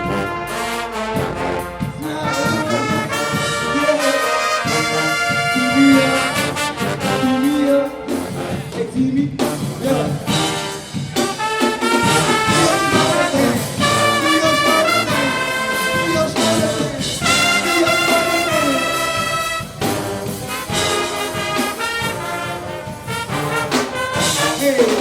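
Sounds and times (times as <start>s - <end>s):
drums: 0.0s - 25.0s
marching band playing: 0.0s - 25.0s
trombones and trumpets chords: 0.0s - 25.0s.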